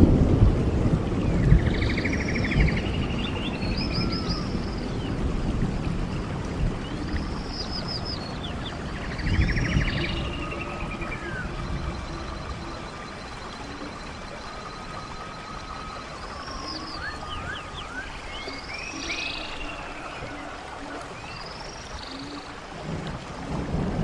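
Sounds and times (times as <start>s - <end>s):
stream rushing: 0.0s - 24.0s
songbird singing trills: 1.4s - 5.2s, 6.8s - 22.6s.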